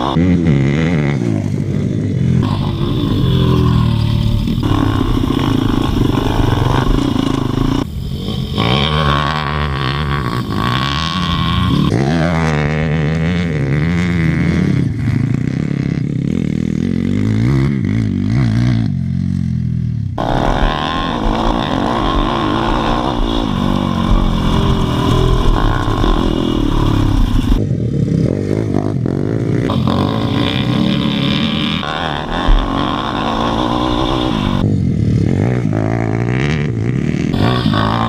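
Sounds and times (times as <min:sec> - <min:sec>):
pit bike engines revving: 0:00.0 - 0:38.0.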